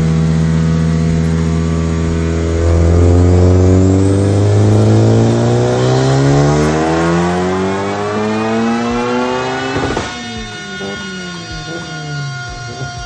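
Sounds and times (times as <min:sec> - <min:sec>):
car engine revving at full throttle: 0:00.0 - 0:13.0.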